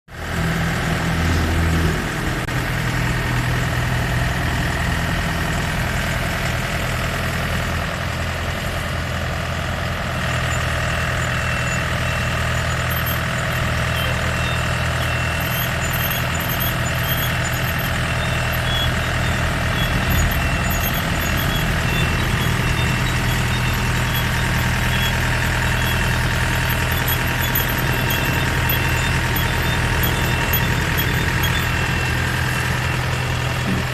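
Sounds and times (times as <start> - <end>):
combine harvester engine running: 0.1 - 33.9.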